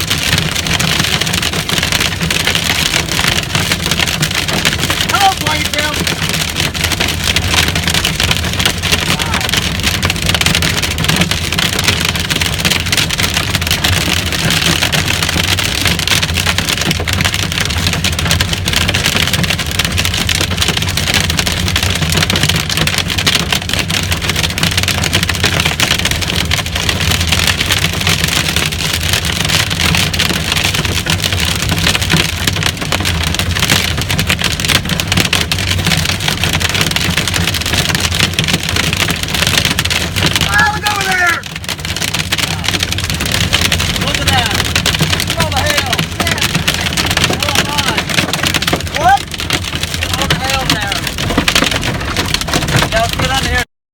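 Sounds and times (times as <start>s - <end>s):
low vehicle rumble: 0.0s - 53.6s
hail drumming on vehicle roof: 0.0s - 53.7s.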